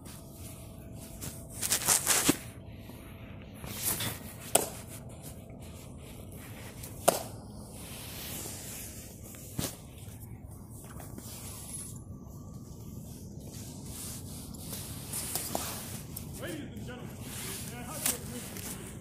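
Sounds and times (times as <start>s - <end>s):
fabric rustling against phone: 0.0s - 2.7s, 3.5s - 19.0s.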